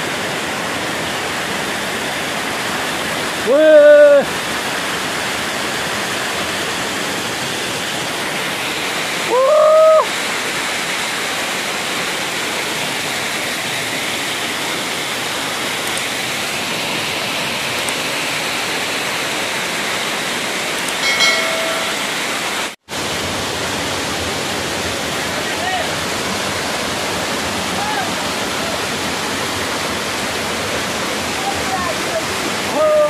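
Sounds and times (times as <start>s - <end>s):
waterfall rushing over rocks: 0.0s - 33.0s.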